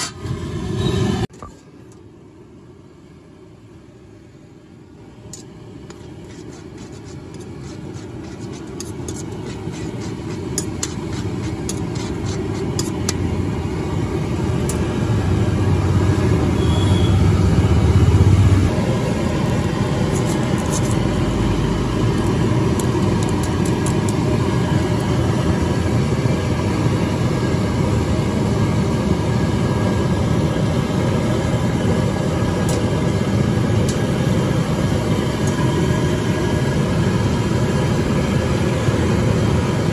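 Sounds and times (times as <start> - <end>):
wok stall rumble: 0.0 - 1.9, 5.0 - 39.9.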